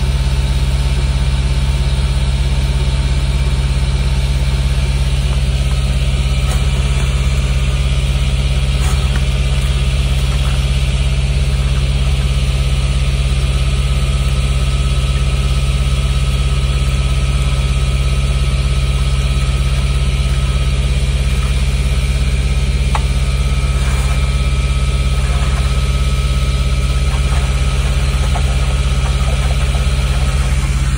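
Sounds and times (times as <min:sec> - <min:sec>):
engine idling: 0:00.0 - 0:30.9.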